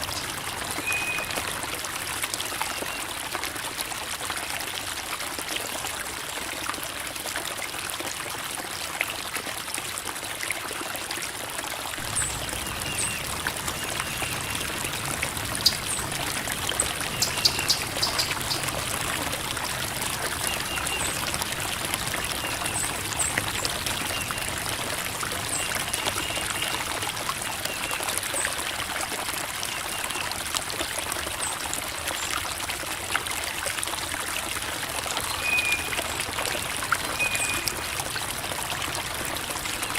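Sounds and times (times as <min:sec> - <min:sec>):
creek water flowing over rocks: 0:00.0 - 0:39.9
water splashes: 0:00.0 - 0:39.9.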